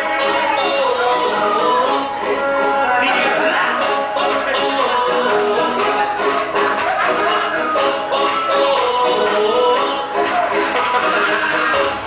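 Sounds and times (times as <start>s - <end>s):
cumbia dance music: 0.0s - 12.0s.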